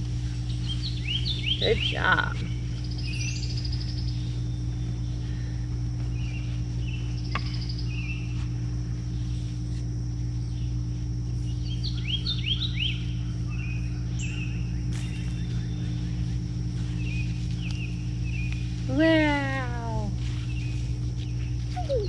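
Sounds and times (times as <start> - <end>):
low outdoor hum: 0.0 - 22.0
birds chirping: 0.2 - 9.4, 10.0 - 22.0.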